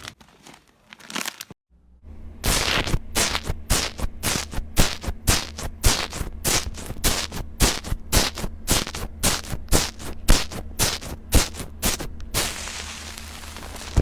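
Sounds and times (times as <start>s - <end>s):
low steady hum: 1.7s - 14.0s.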